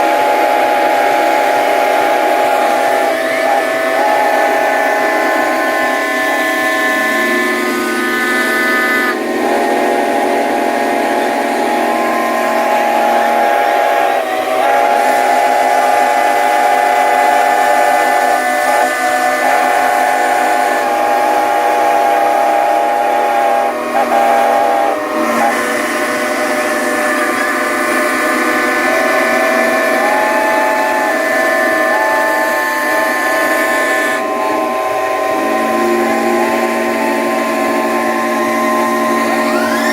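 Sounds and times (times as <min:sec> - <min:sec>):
steam whistles blowing: 0:00.0 - 0:39.9.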